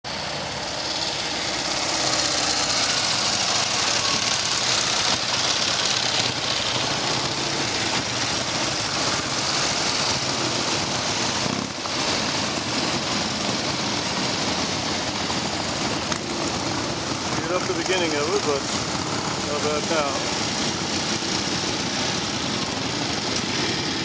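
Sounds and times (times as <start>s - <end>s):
motorcycle engine running: 0.1s - 24.0s.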